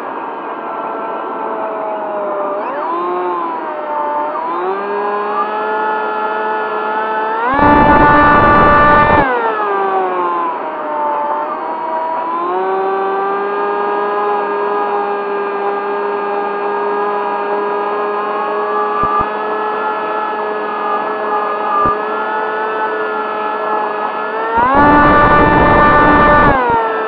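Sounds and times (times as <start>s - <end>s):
electric motor and propeller whine: 0.0s - 27.0s.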